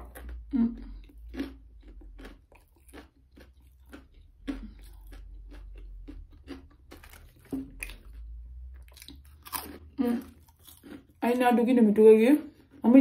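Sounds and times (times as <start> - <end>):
chewing crispy fried food: 0.0 - 13.0.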